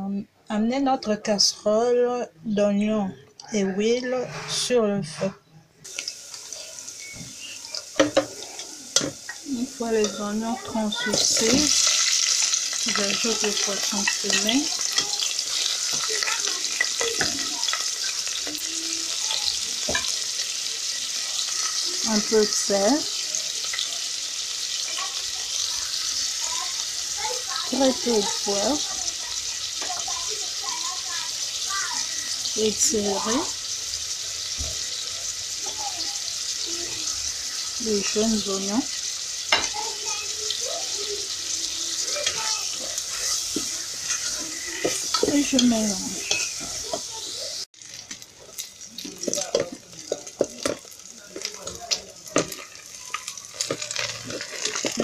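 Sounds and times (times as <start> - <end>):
food sizzling in hot oil: 4.0 - 55.0.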